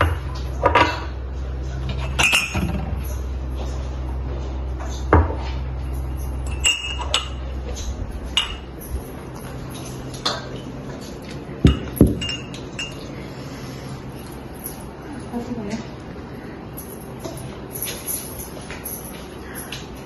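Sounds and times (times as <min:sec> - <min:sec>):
dishes and spoons clinking: 0:00.0 - 0:20.0.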